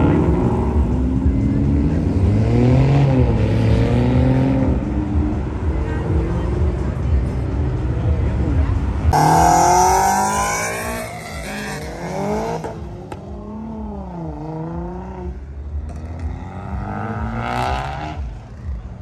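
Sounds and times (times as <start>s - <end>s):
cars accelerating past: 0.0s - 6.9s, 8.9s - 19.0s.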